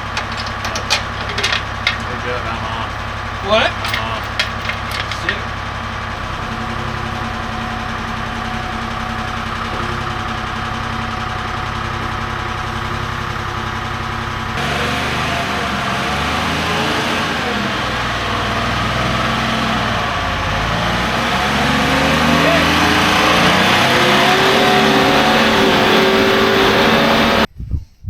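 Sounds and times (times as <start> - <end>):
engine idling: 0.0 - 27.5.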